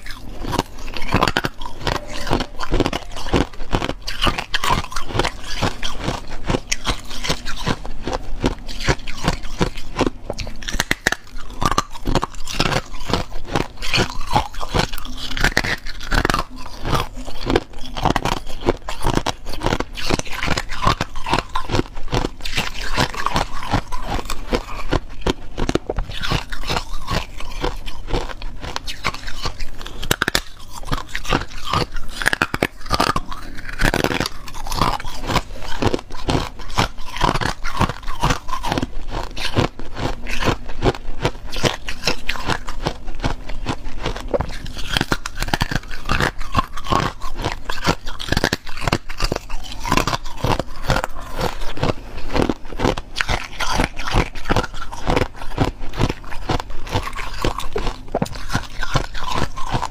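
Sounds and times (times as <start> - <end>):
ice crunching between teeth: 0.0 - 59.9.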